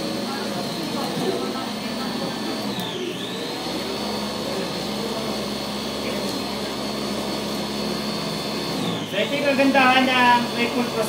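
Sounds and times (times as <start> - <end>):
food processor motor whine: 0.0 - 11.0.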